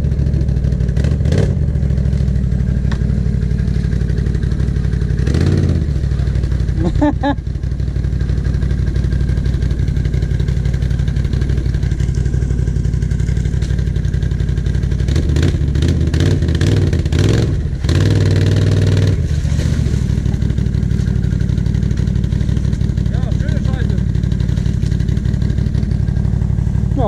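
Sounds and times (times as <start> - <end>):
atv engines idling: 0.0 - 27.0
quad engine revving: 0.0 - 27.0.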